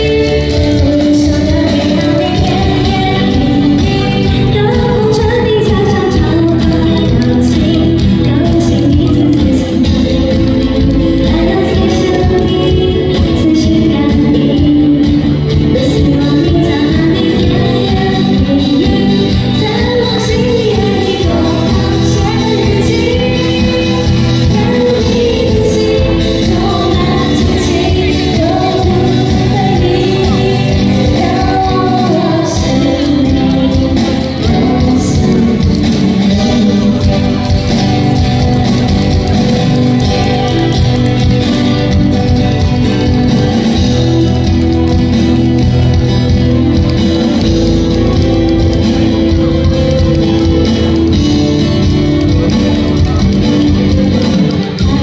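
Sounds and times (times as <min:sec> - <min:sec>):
backing music: 0:00.0 - 0:55.0.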